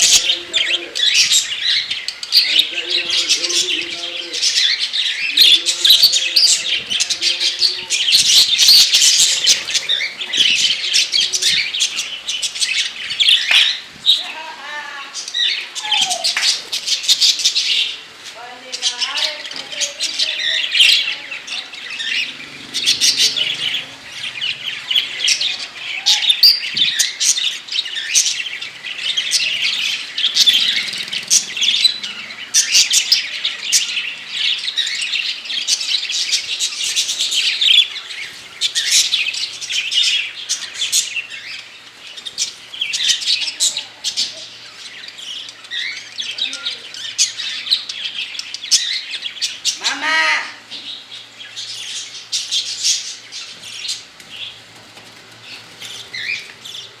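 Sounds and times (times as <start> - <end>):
parrots chirping and chattering: 0.0 - 57.0.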